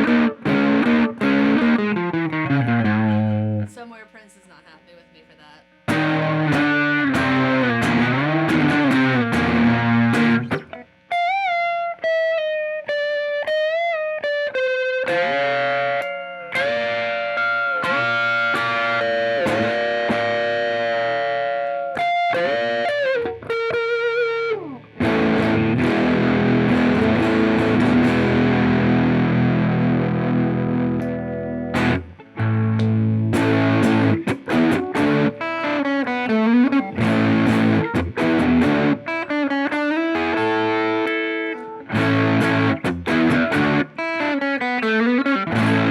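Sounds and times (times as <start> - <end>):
distorted electric guitar: 0.0 - 3.9, 4.8 - 45.9.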